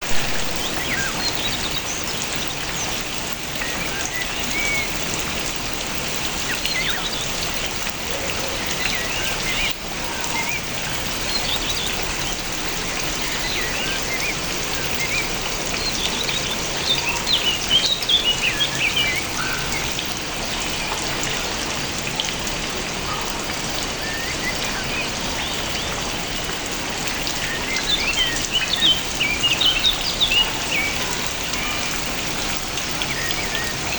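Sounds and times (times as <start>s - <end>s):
small birds chirping: 0.0s - 21.6s, 22.9s - 33.9s
steady rain falling: 0.0s - 33.9s.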